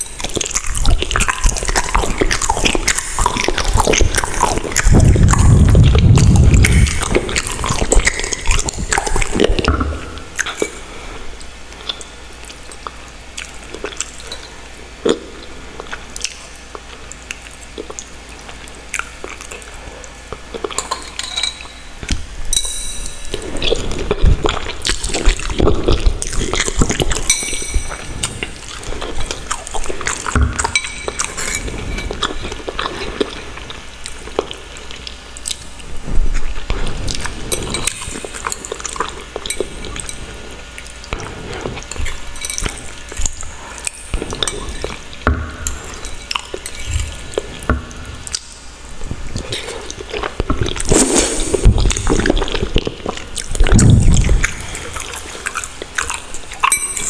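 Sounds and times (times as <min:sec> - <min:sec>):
slurping and chewing noodles: 0:00.0 - 0:57.0.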